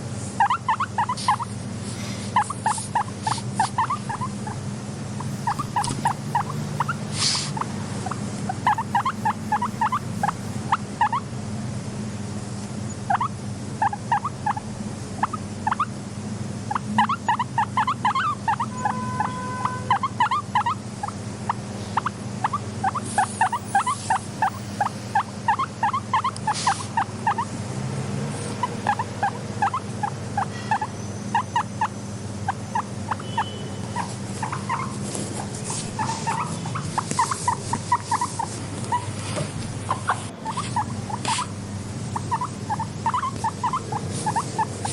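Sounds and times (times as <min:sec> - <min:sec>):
guinea pig squeaking: 0:00.0 - 0:01.6, 0:02.2 - 0:04.6, 0:05.2 - 0:11.3, 0:12.9 - 0:16.0, 0:16.6 - 0:27.6, 0:28.4 - 0:44.9
steady low hum: 0:00.0 - 0:44.9.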